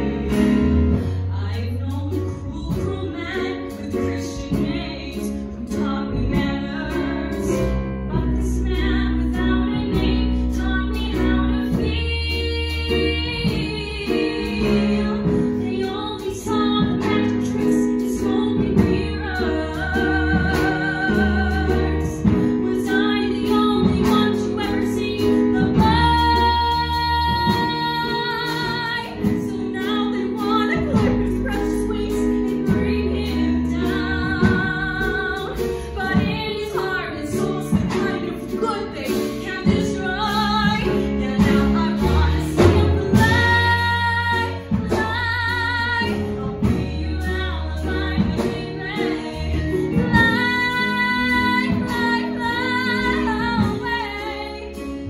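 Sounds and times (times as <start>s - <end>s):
instrumental accompaniment: 0.0s - 55.0s
woman singing with vibrato: 1.2s - 55.0s.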